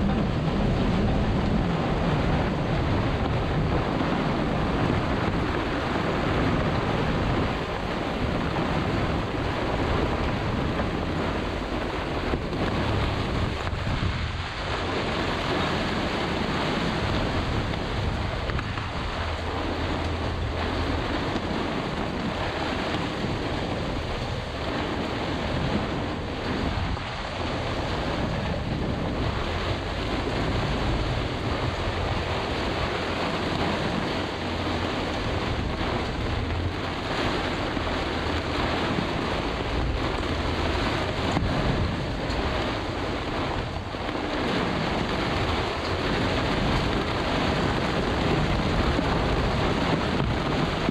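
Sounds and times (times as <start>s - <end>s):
rough breaking water: 0.0s - 50.9s
storm wind buffeting microphone: 0.0s - 50.9s.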